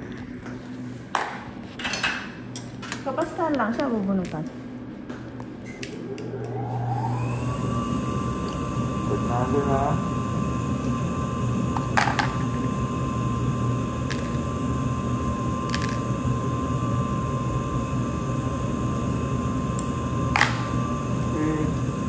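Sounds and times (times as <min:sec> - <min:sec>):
dental equipment humming: 0:00.0 - 0:22.0.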